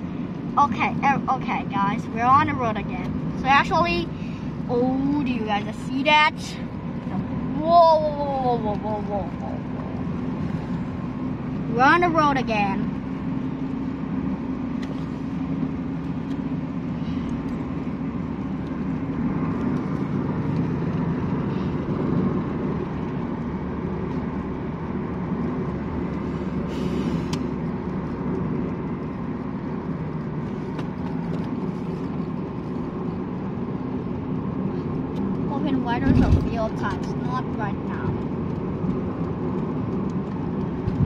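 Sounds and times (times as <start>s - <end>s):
car engine and tyre noise: 0.0s - 41.0s.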